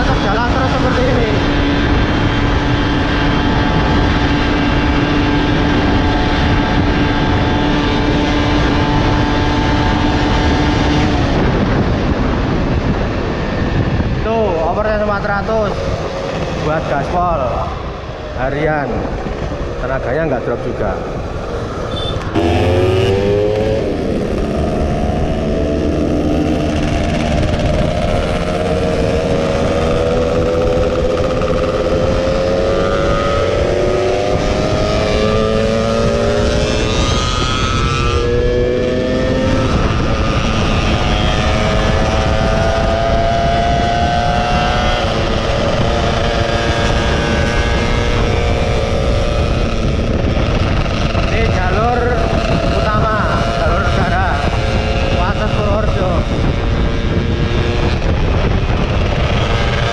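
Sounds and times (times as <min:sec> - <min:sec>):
motorcycle engine accelerating: 0:00.0 - 0:59.9
wind rush: 0:00.0 - 0:59.9.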